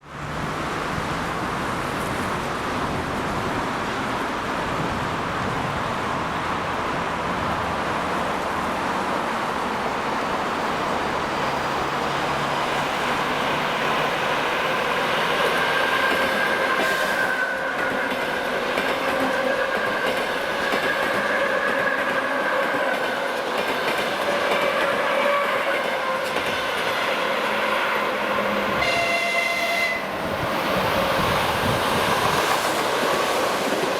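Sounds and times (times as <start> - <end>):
train wheels rolling on rails: 0.1 - 33.9.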